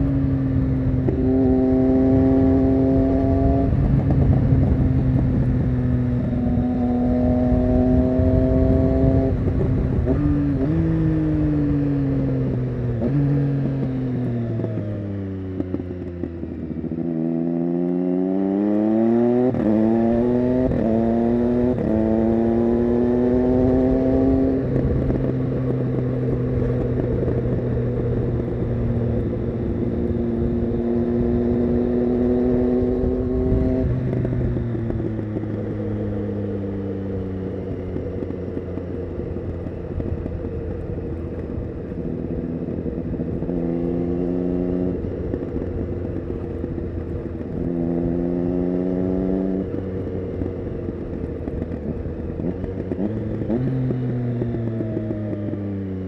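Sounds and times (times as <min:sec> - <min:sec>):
motorcycle engine shifting gears: 0:00.0 - 0:56.0.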